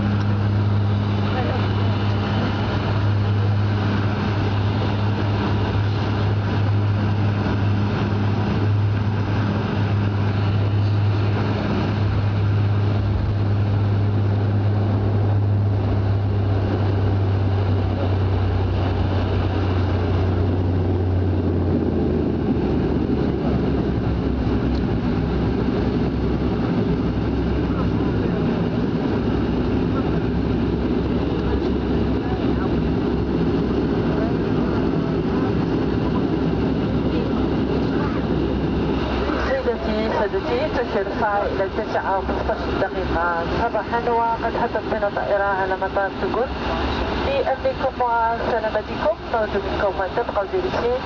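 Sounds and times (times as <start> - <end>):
airliner engines droning: 0.0 - 51.0.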